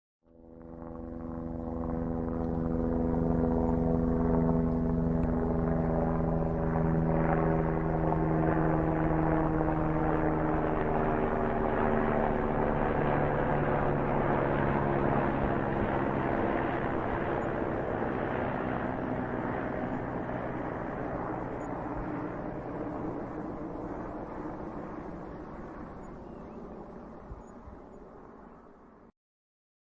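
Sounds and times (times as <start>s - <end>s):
helicopter flying past: 0.3s - 29.1s.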